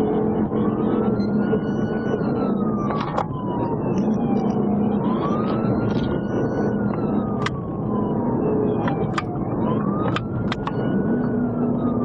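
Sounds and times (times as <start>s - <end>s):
engine and road noise: 0.0s - 12.0s
police siren wailing: 0.0s - 12.0s.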